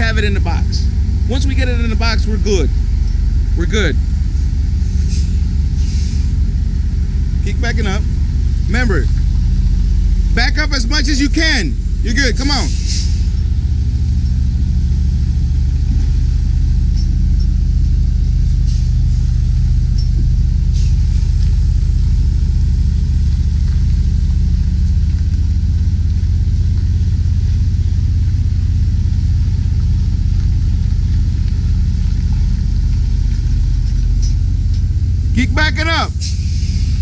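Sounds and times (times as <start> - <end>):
diesel engine deep rumble: 0.0 - 37.0.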